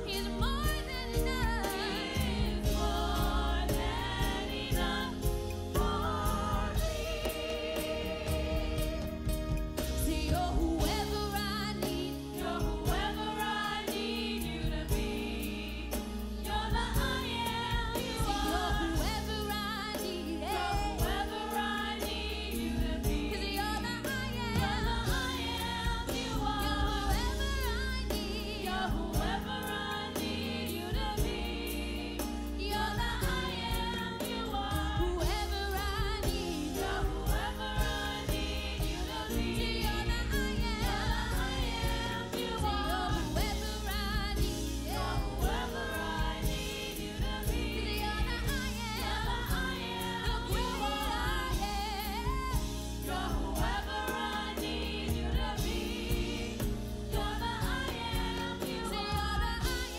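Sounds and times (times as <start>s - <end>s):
choir singing gospel music: 0.0s - 59.9s.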